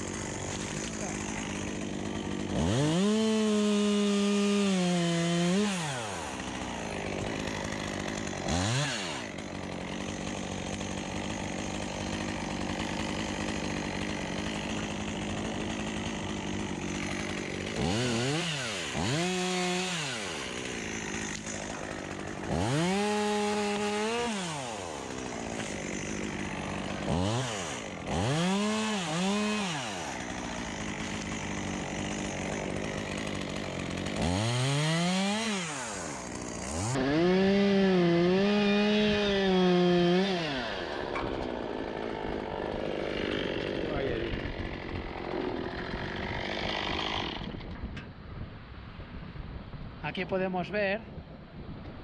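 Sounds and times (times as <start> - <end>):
chainsaw idling and revving: 0.0 - 47.7.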